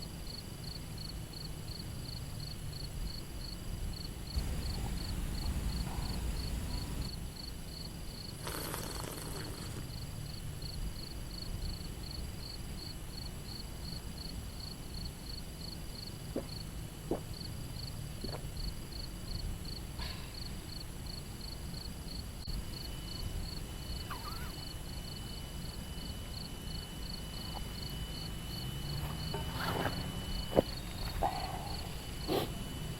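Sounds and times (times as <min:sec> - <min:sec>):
low outdoor rumble: 0:00.0 - 0:08.5, 0:09.3 - 0:32.9
insect chirping: 0:00.0 - 0:32.9.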